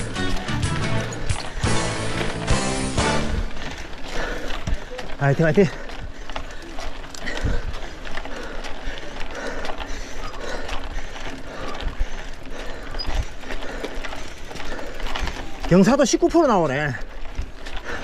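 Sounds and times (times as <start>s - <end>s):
bicycle drivetrain ticking: 0.0s - 18.0s.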